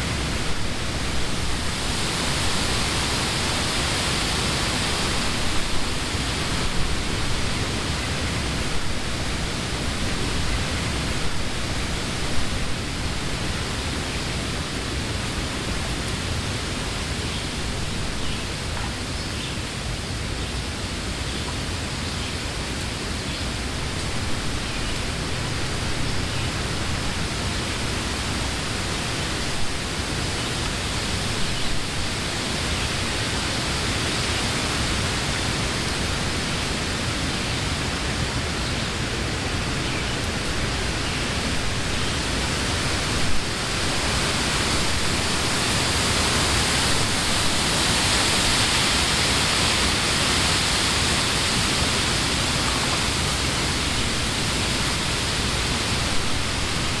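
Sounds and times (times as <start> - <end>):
wind through trees: 0.0 - 57.0.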